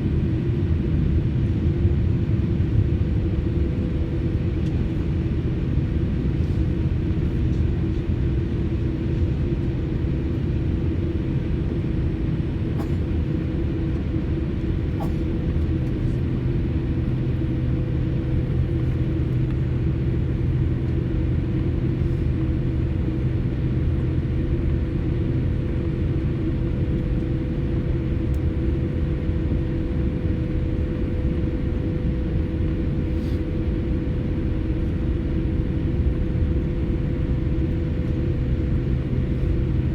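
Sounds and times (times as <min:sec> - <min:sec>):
jet engines idling in cabin: 0:00.0 - 0:39.9.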